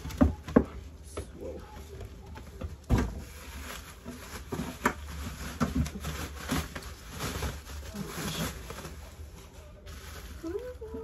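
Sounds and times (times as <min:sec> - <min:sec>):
bubble wrap crinkling: 0:02.0 - 0:11.0.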